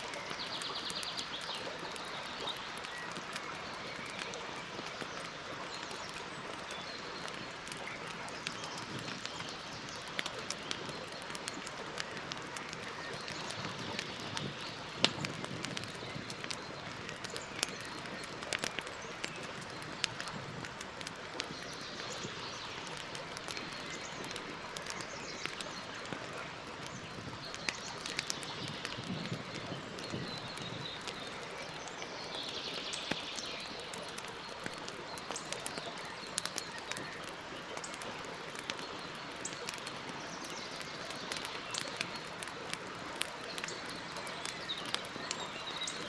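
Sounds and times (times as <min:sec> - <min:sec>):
burning wood popping: 0:00.0 - 0:46.0
campfire crackling: 0:00.0 - 0:46.0.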